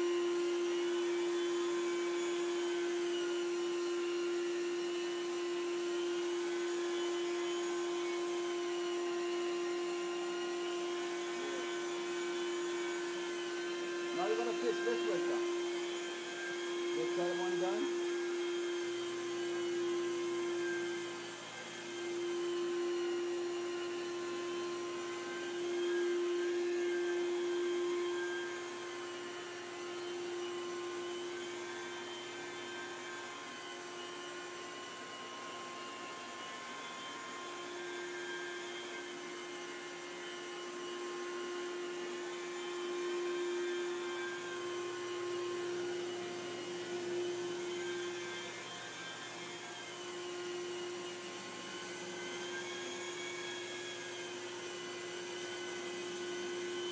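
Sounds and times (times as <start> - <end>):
carpet cleaner vacuum drone: 0.0 - 56.9.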